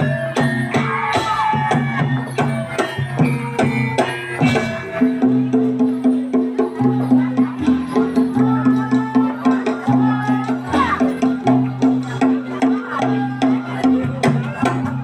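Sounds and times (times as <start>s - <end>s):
drum beat: 0.0s - 15.0s.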